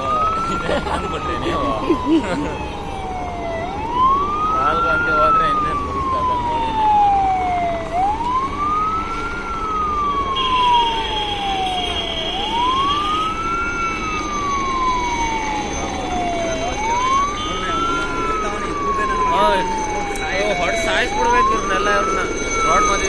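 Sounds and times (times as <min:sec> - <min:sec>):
fire engine siren wailing: 0:00.0 - 0:23.0
road traffic noise: 0:00.0 - 0:23.0.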